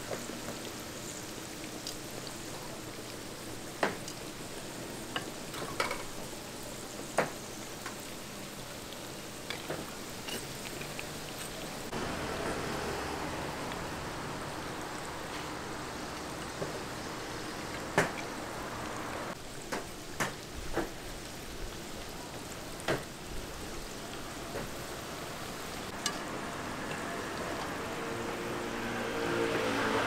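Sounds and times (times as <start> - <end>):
pastries sizzling in hot oil: 0.0 - 30.0.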